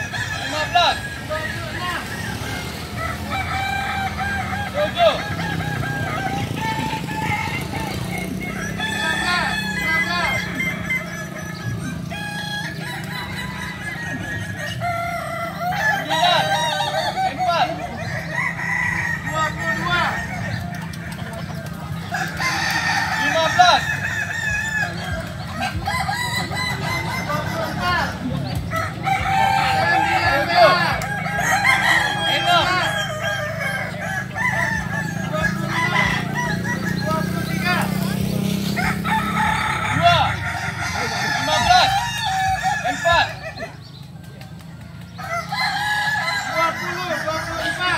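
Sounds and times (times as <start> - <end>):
roosters crowing: 0.0 - 47.9.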